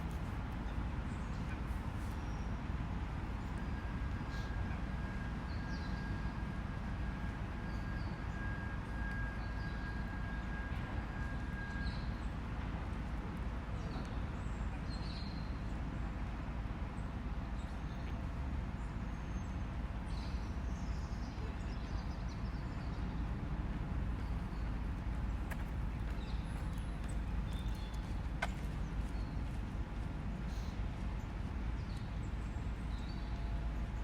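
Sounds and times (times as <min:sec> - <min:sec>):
distant traffic rumble: 0:00.0 - 0:34.0.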